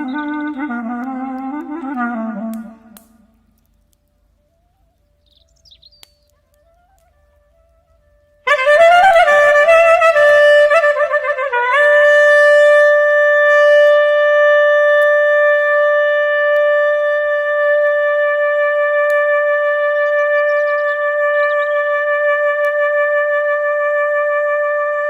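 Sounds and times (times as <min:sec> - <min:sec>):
clarinet playing: 0:00.0 - 0:03.2, 0:06.2 - 0:25.0.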